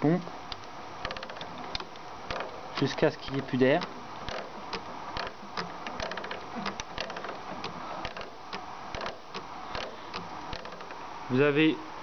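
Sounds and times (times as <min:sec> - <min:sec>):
steady background noise: 0:00.0 - 0:12.0
primer bulb pump clicking: 0:00.5 - 0:11.0.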